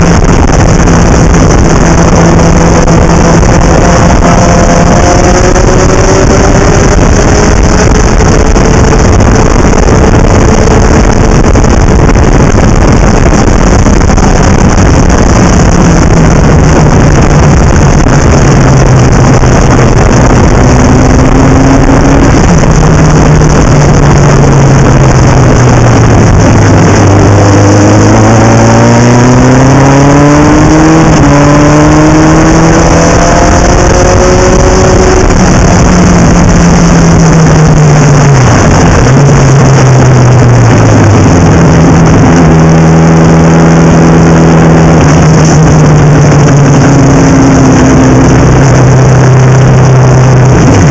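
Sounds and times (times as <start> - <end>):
race car engine running hard: 0.0 - 50.9
wind rush over microphone: 0.0 - 50.9.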